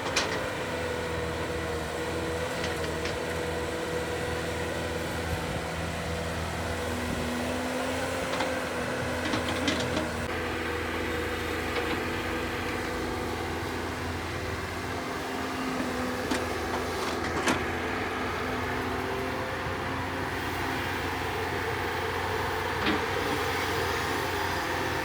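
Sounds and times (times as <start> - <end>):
excavator diesel engine whining: 0.0 - 25.0.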